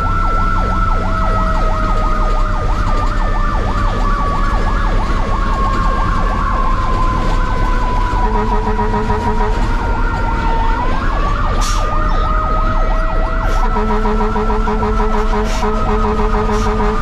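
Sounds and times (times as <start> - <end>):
engine and road rumble: 0.0 - 17.0
fast yelping siren: 0.0 - 17.0
sliding siren tone: 0.0 - 17.0.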